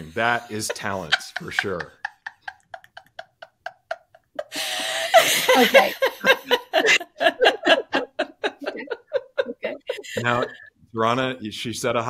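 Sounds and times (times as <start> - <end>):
people laughing: 0.0 - 10.7.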